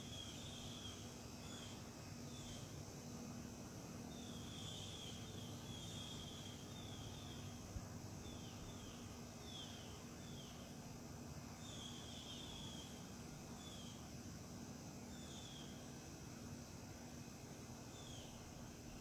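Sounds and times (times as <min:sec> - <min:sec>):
faint high hiss: 0:00.0 - 0:19.0.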